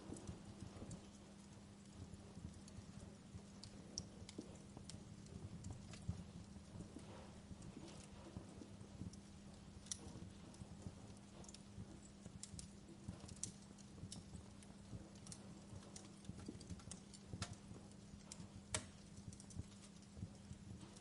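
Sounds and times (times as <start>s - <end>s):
fire crackling and popping: 0.0s - 21.0s
steady low hum: 0.0s - 21.0s.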